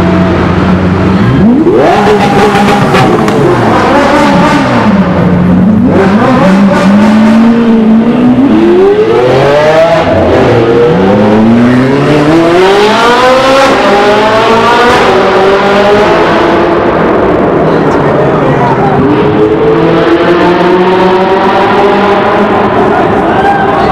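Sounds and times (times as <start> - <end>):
sports car engine accelerating: 0.0 - 23.3.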